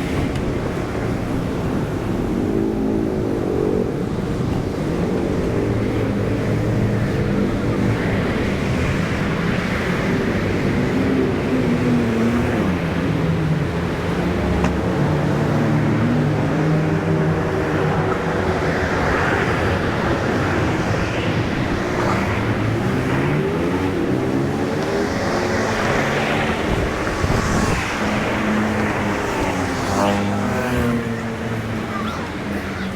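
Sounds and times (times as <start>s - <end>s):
passing vehicle engines: 0.0s - 32.9s
road noise rushing: 0.0s - 32.9s.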